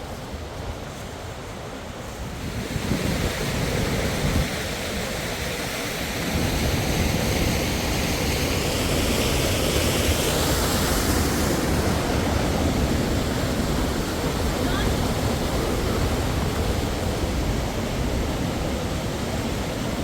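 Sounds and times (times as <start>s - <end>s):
wind buffeting microphone: 0.0s - 5.6s, 6.2s - 20.0s
waterfall rushing: 2.4s - 20.0s.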